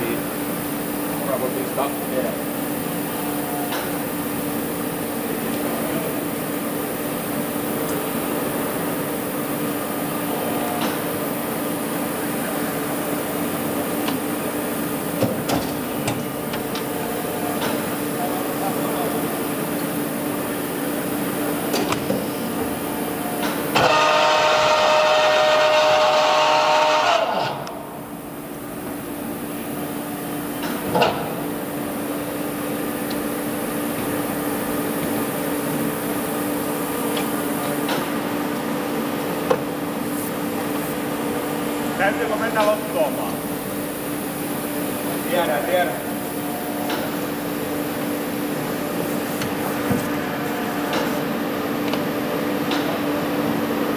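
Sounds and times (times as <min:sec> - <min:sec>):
machine hum and hiss: 0:00.0 - 0:53.9.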